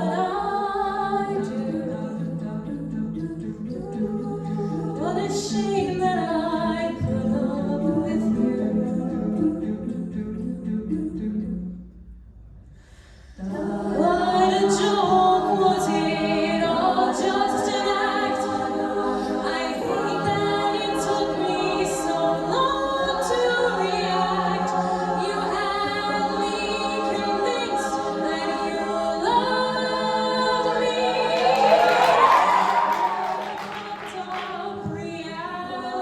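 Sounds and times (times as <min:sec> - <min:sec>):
a cappella group singing: 0:00.0 - 0:11.9, 0:13.2 - 0:36.0.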